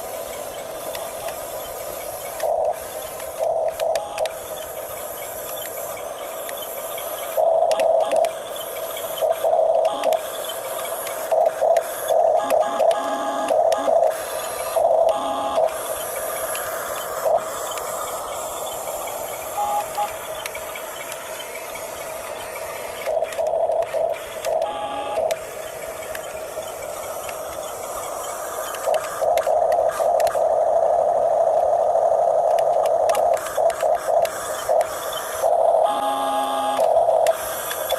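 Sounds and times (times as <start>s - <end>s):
toy bulldozer motors whining: 0.0s - 30.4s, 32.5s - 37.9s
steady background whine: 0.0s - 37.9s.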